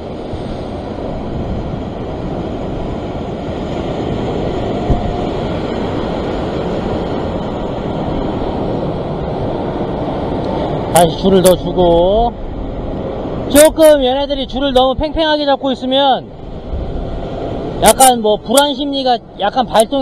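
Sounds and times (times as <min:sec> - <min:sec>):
wind on microphone: 0:00.0 - 0:15.3, 0:16.2 - 0:20.0
surf washing over rocks: 0:00.0 - 0:20.0.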